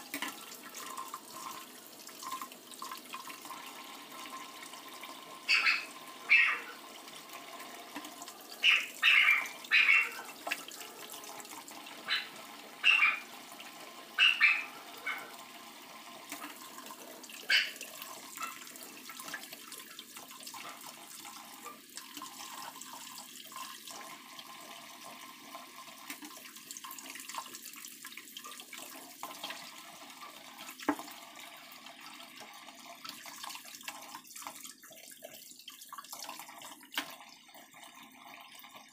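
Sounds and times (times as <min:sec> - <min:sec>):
tap water running into sink: 0:00.0 - 0:38.9.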